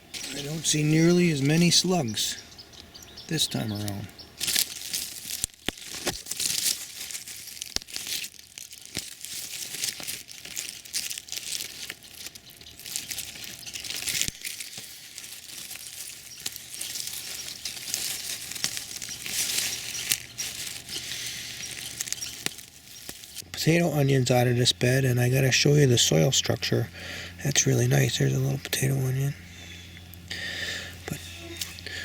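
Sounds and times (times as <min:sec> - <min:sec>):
dry rustling and crackling: 0:00.0 - 0:26.7, 0:27.4 - 0:32.0.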